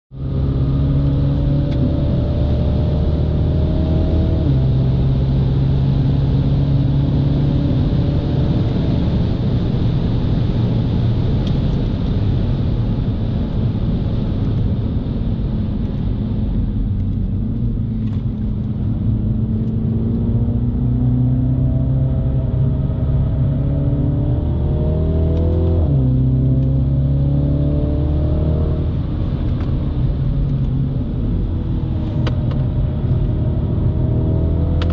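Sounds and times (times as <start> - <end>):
car engine accelerating: 0.1 - 34.9
road and wind noise: 0.1 - 34.9.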